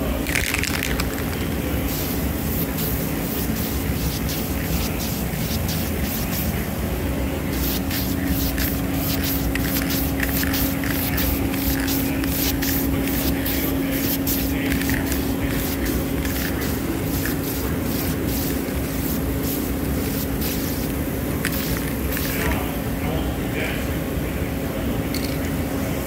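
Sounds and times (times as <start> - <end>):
steady hum: 0.0 - 26.0
spray paint can hissing: 0.3 - 6.6, 7.5 - 22.4.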